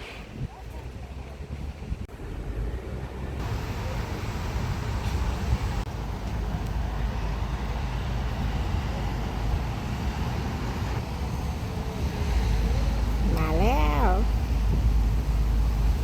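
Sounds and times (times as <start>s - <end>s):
road noise: 0.0s - 16.0s
vehicle engine running: 0.8s - 16.0s.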